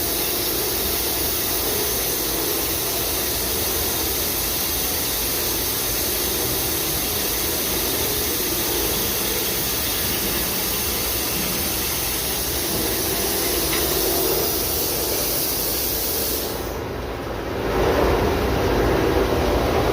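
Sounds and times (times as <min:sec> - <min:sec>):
drilling machine hissing: 0:00.0 - 0:16.9
loud low machine sound: 0:00.0 - 0:19.9
low machine hum: 0:00.0 - 0:19.9.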